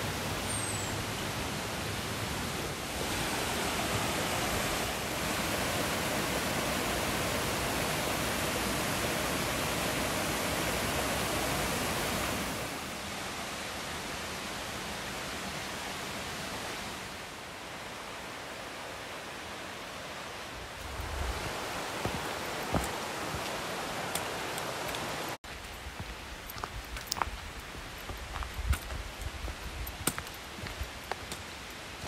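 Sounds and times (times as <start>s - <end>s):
creek water rushing: 0.0s - 32.0s.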